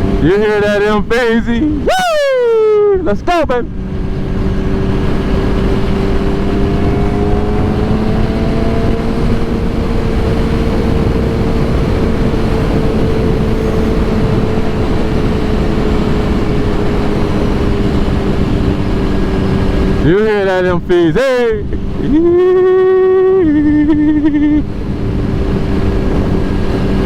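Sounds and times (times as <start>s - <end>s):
motorcycle engine running: 0.0s - 1.9s, 3.6s - 27.0s.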